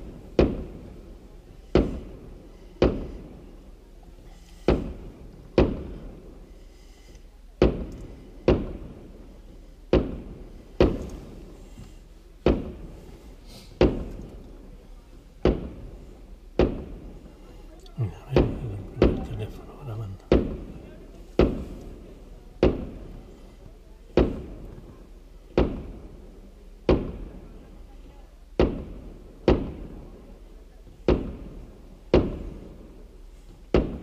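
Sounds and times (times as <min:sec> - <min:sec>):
fireworks bangs with echo: 0:00.0 - 0:34.0.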